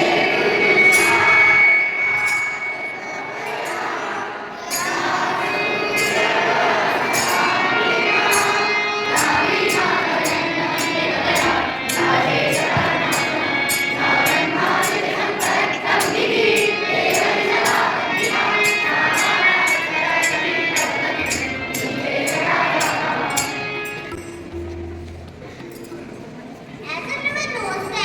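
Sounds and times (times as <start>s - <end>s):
group singing: 0.0s - 24.3s
jingling percussion beat: 0.0s - 26.5s
instrumental music: 0.0s - 26.8s.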